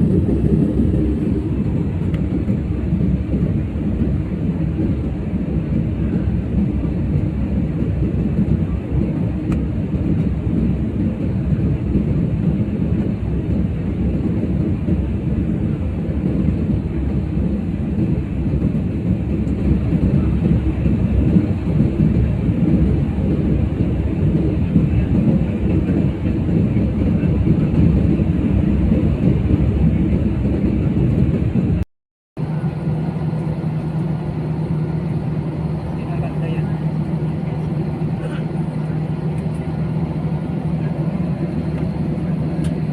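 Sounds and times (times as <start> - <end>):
steady low hum: 0.0 - 31.8, 32.4 - 42.9
airliner cabin rumble: 0.0 - 42.9.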